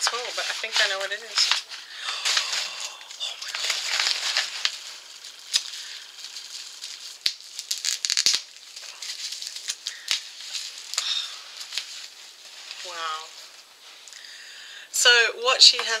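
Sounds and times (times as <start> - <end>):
envelope crinkling rustle: 0.0 - 14.2.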